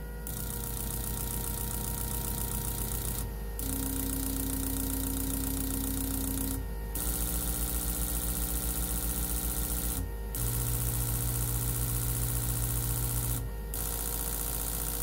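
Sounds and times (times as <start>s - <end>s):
test bench hum: 0.0s - 15.0s.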